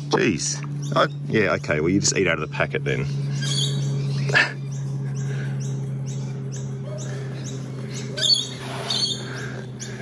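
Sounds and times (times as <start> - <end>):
steady low hum: 0.0 - 10.0
small bird chirping: 0.2 - 10.0.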